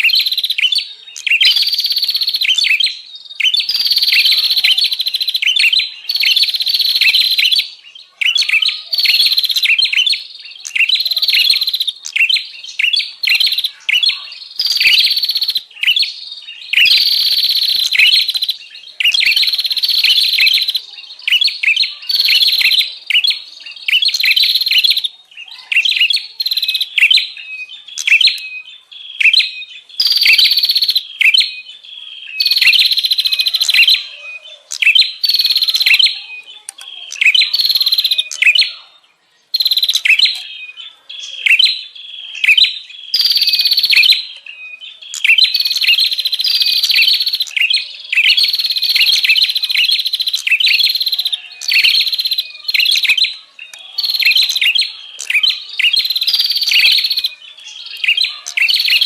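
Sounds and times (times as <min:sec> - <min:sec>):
bird chirping rapidly: 0:00.0 - 0:59.0.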